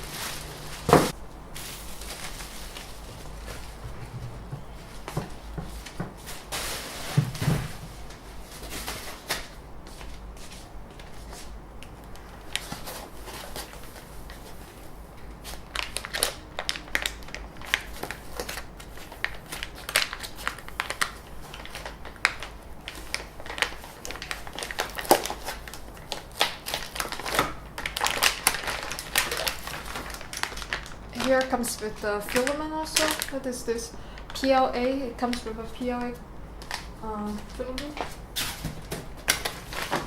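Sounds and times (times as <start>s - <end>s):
packaging crinkling and rustling: 0.0s - 40.0s.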